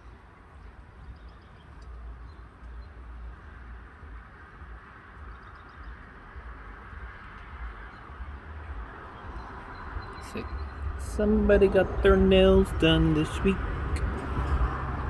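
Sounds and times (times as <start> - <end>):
faint birds chirping: 0.0 - 15.0
wind buffeting microphone: 0.0 - 15.0.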